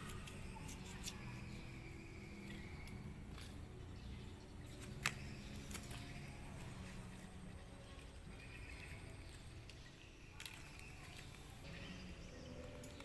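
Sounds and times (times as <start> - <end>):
fruit shells clicking: 0.0 - 11.6
low background noise: 0.0 - 13.0.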